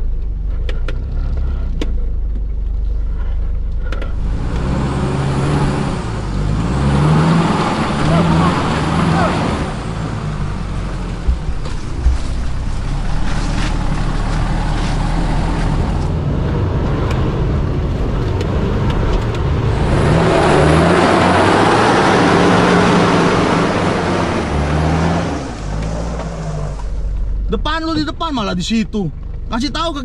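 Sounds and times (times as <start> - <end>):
off-road vehicle engine under load: 0.0 - 30.0.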